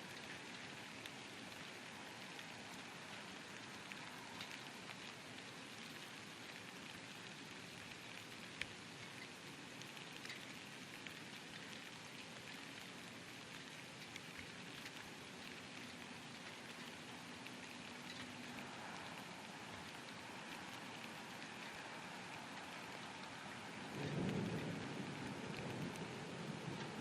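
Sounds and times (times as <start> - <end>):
light rain falling: 0.0 - 27.0.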